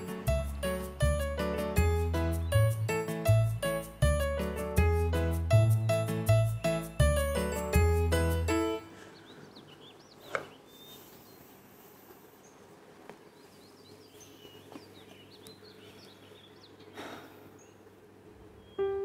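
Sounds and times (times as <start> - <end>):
faint birds chirping: 0.0 - 4.2, 5.7 - 19.0.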